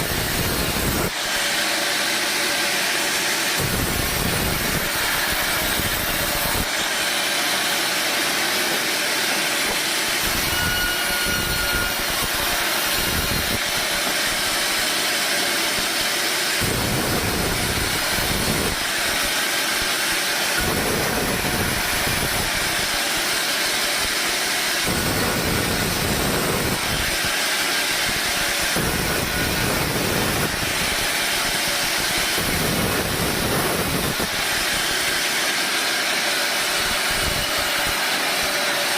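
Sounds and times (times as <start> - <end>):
sawmill machinery whining: 0.0 - 38.9.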